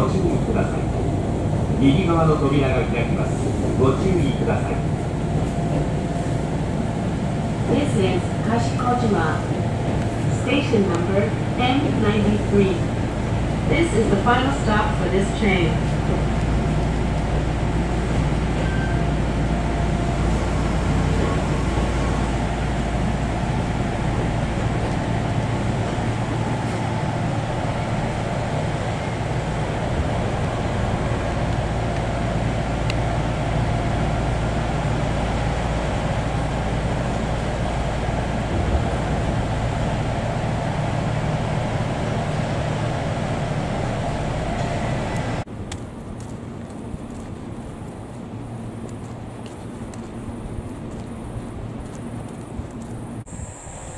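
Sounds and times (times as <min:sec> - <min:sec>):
outdoor ambience: 0:00.0 - 0:53.9
train cabin rumble and hum: 0:00.0 - 0:53.9.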